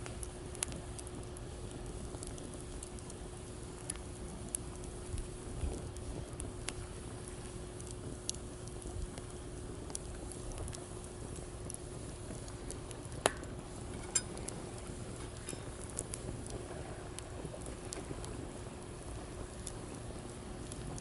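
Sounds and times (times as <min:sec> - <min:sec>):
campfire crackling and popping: 0:00.0 - 0:21.0
steady hiss: 0:00.0 - 0:21.0.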